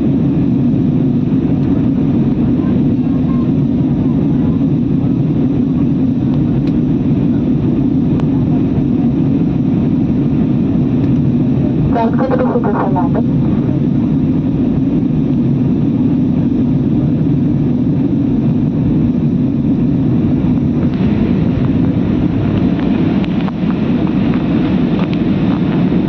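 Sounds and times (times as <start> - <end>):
aircraft cabin drone: 0.0 - 26.0.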